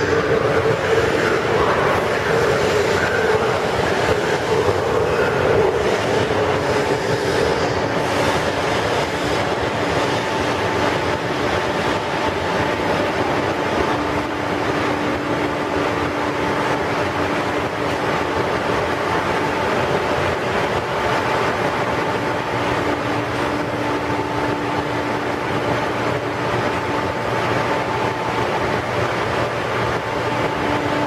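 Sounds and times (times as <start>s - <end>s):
rail noise rumble: 0.0s - 31.0s
train equipment humming whine: 0.0s - 31.0s.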